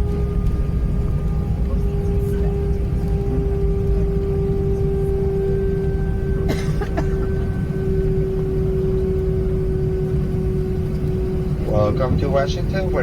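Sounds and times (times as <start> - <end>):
low cabin rumble: 0.0 - 13.0.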